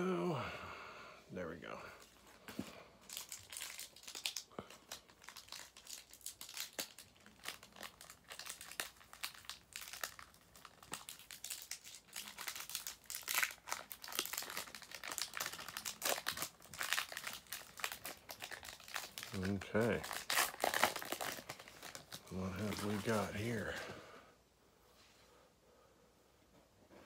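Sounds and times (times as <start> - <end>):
plastic wrapper crinkling: 2.0 - 23.9.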